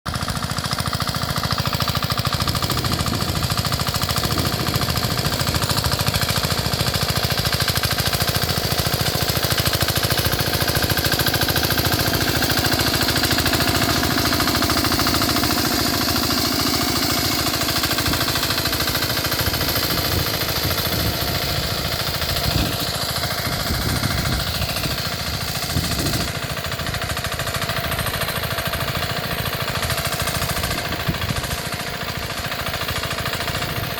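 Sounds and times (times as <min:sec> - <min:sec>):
small engine chugging: 0:00.1 - 0:33.9.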